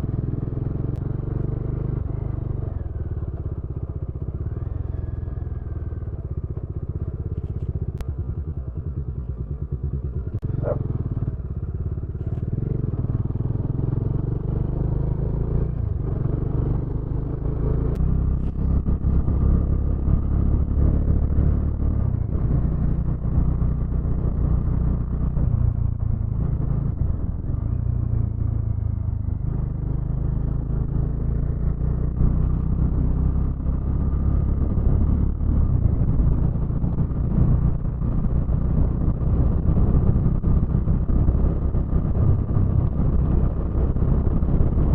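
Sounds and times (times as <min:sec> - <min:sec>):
motorcycle engine rumble: 0:00.0 - 0:44.9.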